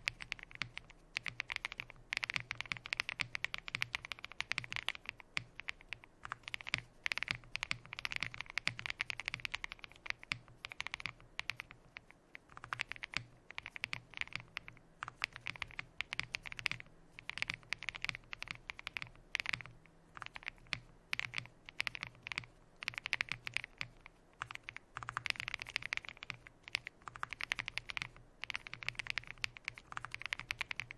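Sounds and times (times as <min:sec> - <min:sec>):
faint steady hum: 0:00.0 - 0:30.9
fast typing on mechanical keyboard: 0:00.0 - 0:30.9.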